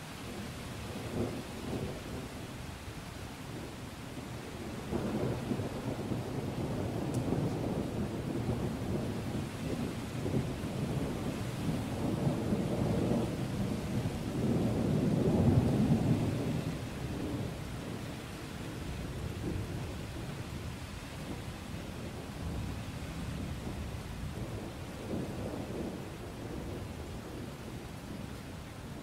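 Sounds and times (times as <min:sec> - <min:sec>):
rain pattering: 0:00.0 - 0:29.0
rolling thunder: 0:04.6 - 0:18.0, 0:18.7 - 0:29.0.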